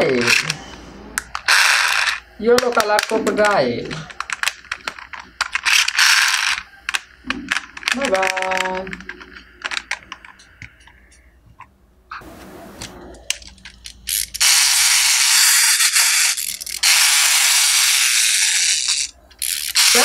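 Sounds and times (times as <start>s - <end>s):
plastic toys clicking: 0.0s - 0.6s, 1.2s - 11.6s, 13.2s - 20.0s
toy mechanism running: 0.0s - 0.6s, 1.2s - 11.2s, 13.3s - 20.0s.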